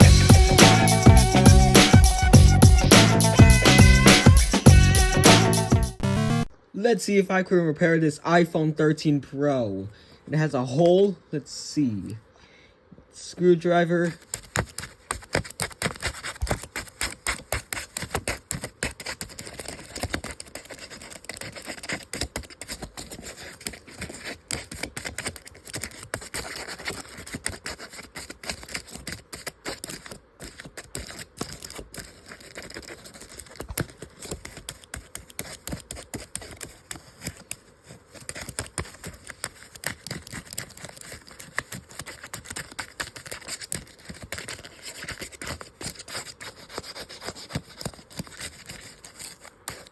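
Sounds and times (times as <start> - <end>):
tool scratching paper: 0.0 - 5.6, 13.9 - 49.9.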